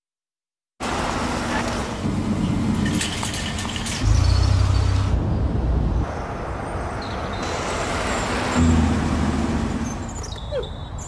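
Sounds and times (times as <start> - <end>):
traffic noise: 0.8 - 11.0
car engine rumbling: 0.9 - 10.2.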